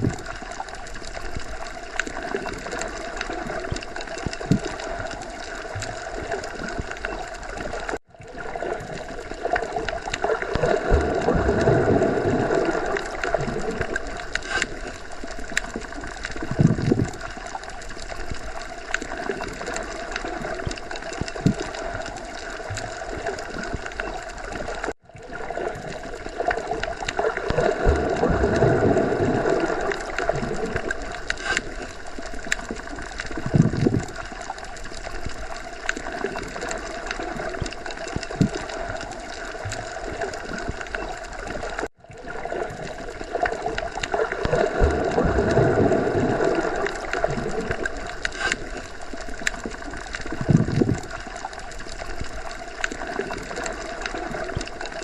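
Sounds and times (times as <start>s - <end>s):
underwater water noise: 0.0s - 55.0s.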